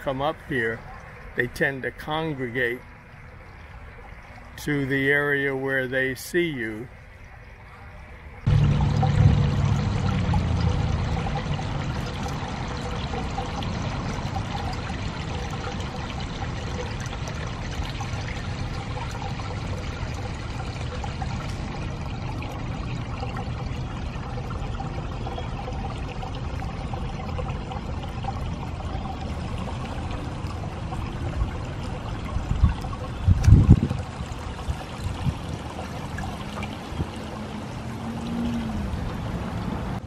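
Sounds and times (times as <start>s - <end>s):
water splashing into pond: 7.1s - 40.0s.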